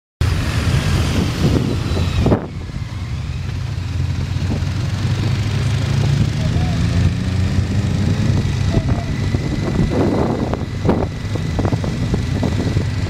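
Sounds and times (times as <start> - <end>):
motorcycle engine cruising: 0.2 - 13.0
wind rushing over microphone: 0.2 - 13.0.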